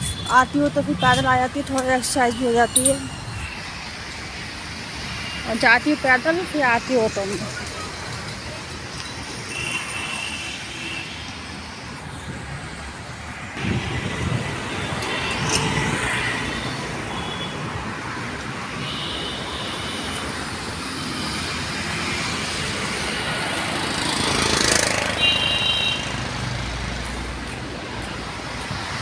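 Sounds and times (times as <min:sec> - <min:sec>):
road traffic rush: 0:00.0 - 0:29.0.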